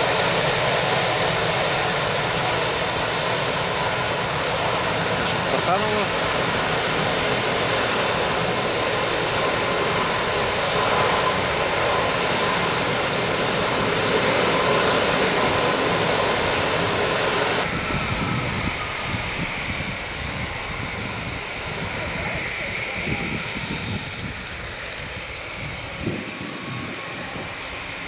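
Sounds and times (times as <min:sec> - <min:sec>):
jet engine hiss with whine: 0:00.0 - 0:28.0.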